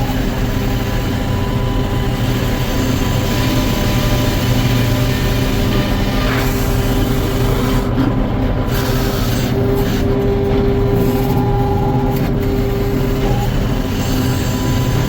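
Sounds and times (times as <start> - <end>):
sawmill machine hum: 0.0 - 15.0.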